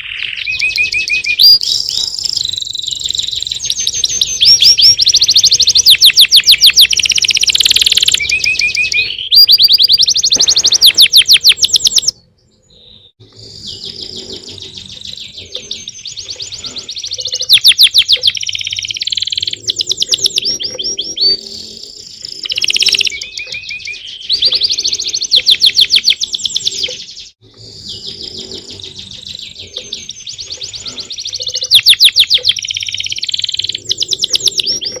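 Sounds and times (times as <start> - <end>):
songbirds trilling and chirping: 0.0 - 35.0.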